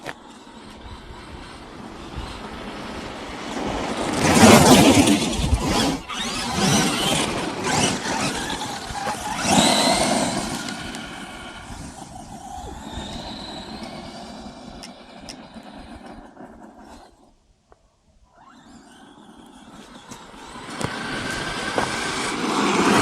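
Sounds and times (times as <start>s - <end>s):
rc truck motor whining: 0.0s - 17.4s, 18.3s - 23.0s.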